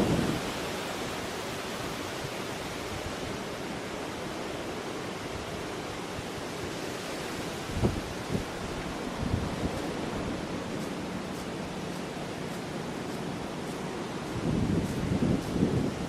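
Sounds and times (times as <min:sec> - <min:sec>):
storm wind and water rushing: 0:00.0 - 0:16.0.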